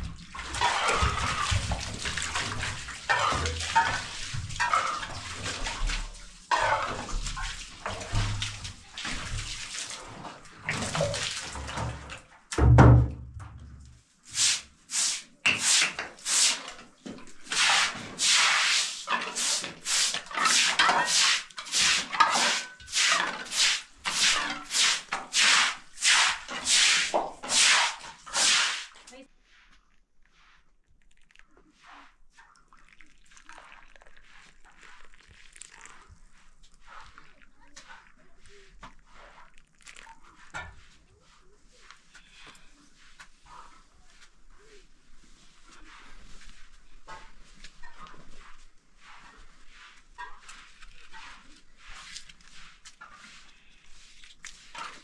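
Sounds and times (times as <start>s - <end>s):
broom sweeping wet floor: 0.0s - 12.7s, 14.0s - 55.0s
water splashing on cement floor: 0.0s - 12.8s, 13.4s - 29.2s, 30.7s - 55.0s.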